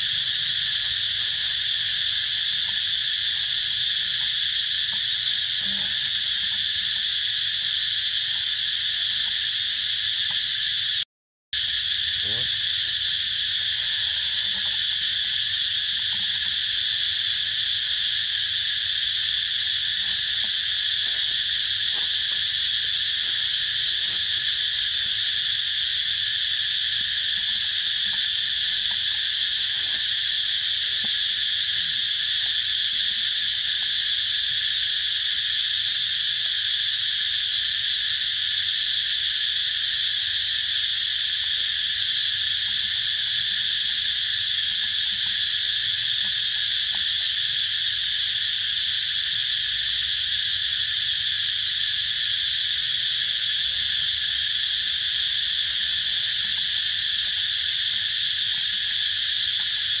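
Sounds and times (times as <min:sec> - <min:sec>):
insect chorus drone: 0:00.0 - 0:11.0, 0:11.6 - 1:00.0.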